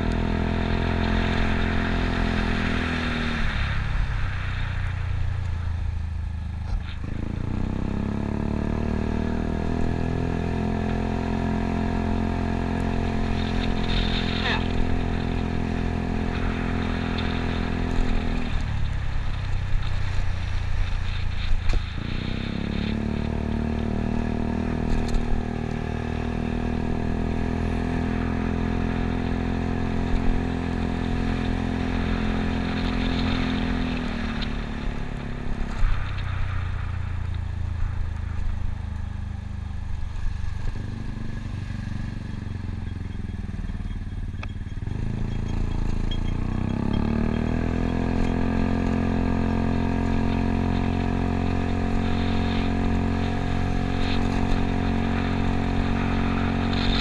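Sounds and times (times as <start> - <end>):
wind and road noise: 0.0 - 57.0
scooter engine running: 4.9 - 57.0.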